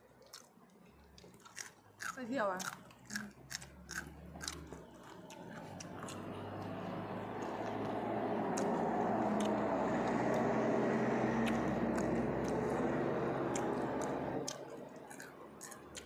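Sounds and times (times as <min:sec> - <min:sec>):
crunchy chewing: 0:00.0 - 0:10.6, 0:11.3 - 0:16.0.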